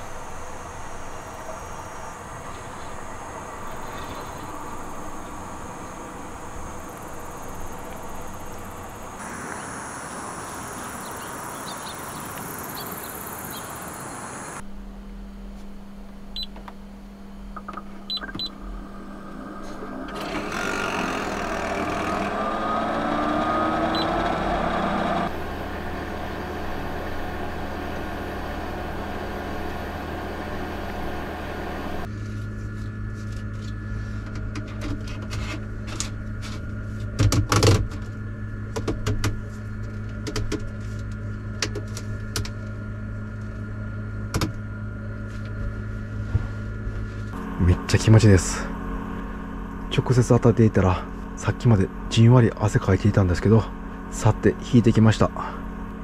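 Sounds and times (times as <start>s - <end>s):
portable air conditioner running: 0.0s - 56.0s
rising whine: 0.0s - 56.0s.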